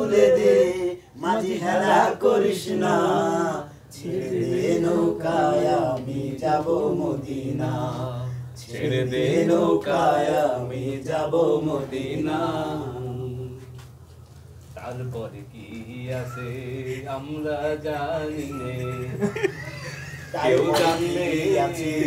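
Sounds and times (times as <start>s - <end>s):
man singing unaccompanied: 0.0s - 13.6s, 14.8s - 19.4s, 20.3s - 22.0s.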